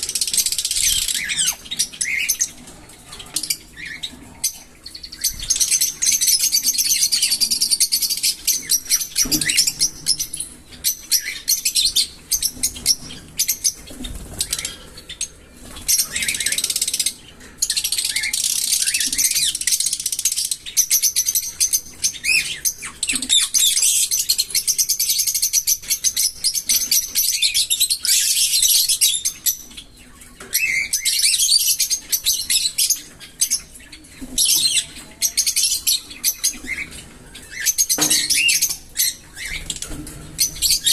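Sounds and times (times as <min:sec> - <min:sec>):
parrots chattering and chirping: 0:00.0 - 0:40.9.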